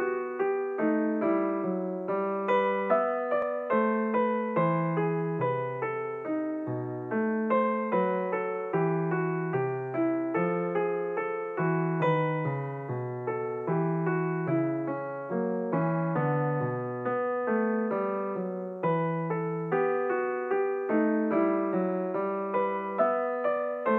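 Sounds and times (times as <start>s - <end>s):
piano music: 0.0s - 23.9s.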